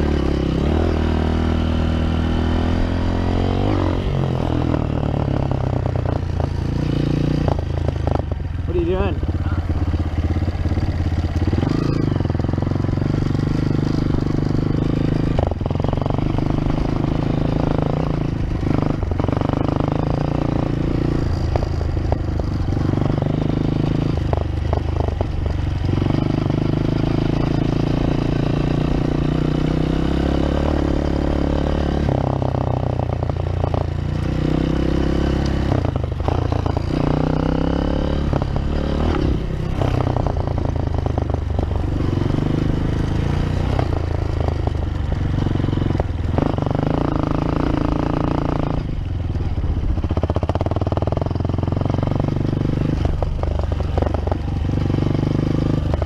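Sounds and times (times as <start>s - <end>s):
dirt bike engine revving: 0.0s - 49.0s, 50.0s - 56.0s.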